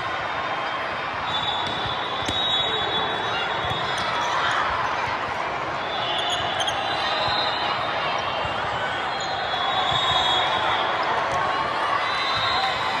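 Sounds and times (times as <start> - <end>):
spectator chatter: 0.0 - 13.0.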